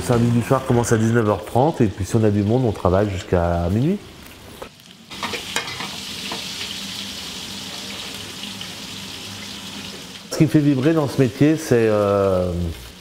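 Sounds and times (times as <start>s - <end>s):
food sizzling in pans: 0.0s - 13.0s.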